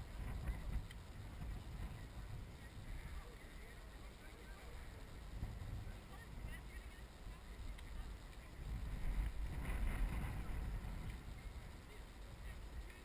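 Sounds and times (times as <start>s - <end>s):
wind buffeting microphone: 0.0s - 3.7s, 4.8s - 13.0s.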